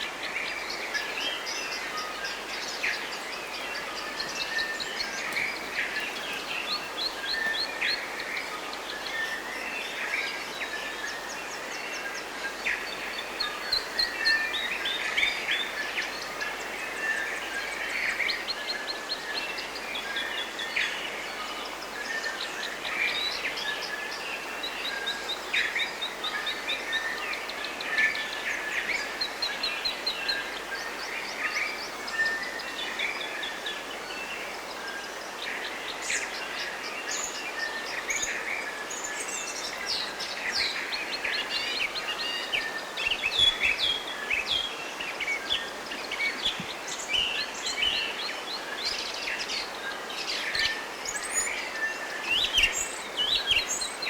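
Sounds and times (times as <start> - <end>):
forest birds chirping and trilling: 0.0 - 54.0
steady background hiss: 0.0 - 54.0.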